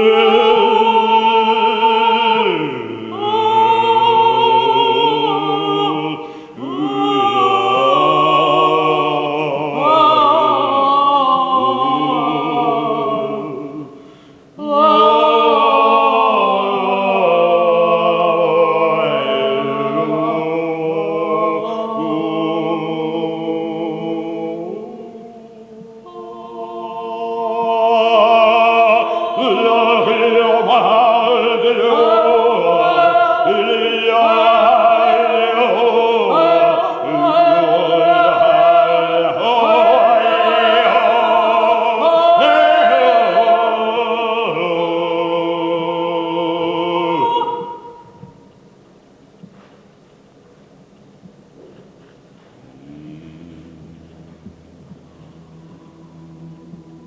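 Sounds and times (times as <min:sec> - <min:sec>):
man and woman singing operatically: 0:00.0 - 0:48.4.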